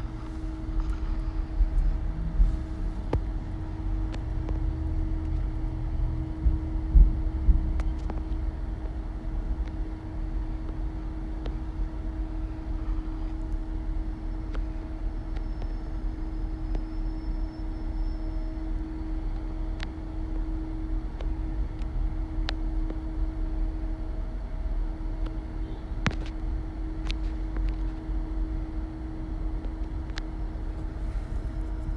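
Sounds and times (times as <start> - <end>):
constant hum: 0.0 - 31.9
low vehicle rumble: 0.0 - 31.9.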